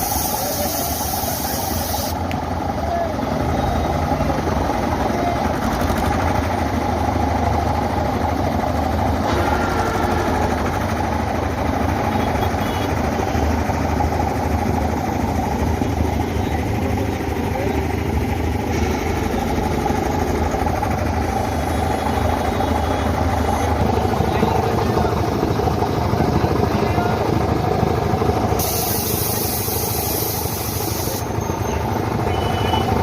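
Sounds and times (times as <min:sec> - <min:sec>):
engine droning: 0:01.5 - 0:33.0.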